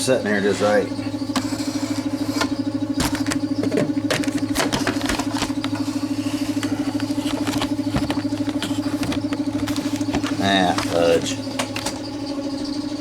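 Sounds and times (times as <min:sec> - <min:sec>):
machine hum pulsing: 0:00.0 - 0:13.0
handling clicks and knocks: 0:01.3 - 0:12.1.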